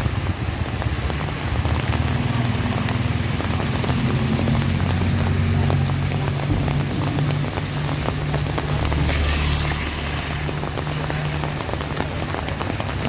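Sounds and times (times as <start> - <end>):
heavy rain: 0.0 - 13.0
raindrops striking close by: 0.0 - 13.0.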